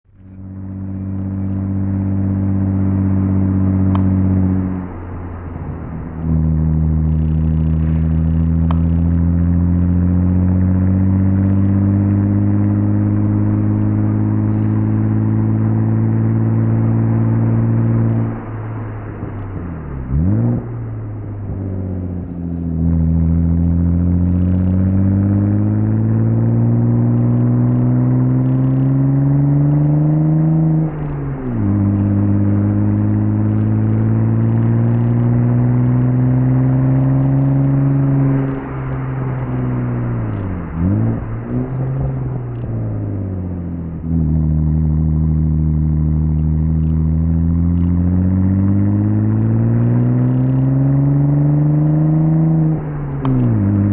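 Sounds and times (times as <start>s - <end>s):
car engine revving: 0.1s - 53.9s
engine rev blips: 0.2s - 18.6s, 19.2s - 53.9s.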